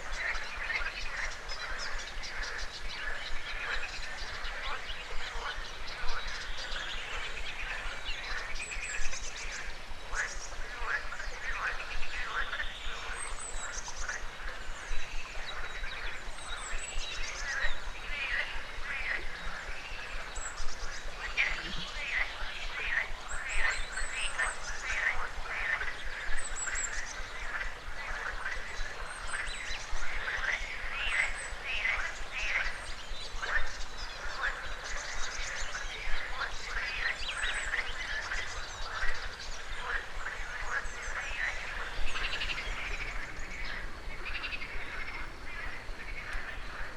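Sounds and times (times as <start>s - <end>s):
frogs croaking: 0.0s - 46.9s
small birds chirping: 0.0s - 46.9s.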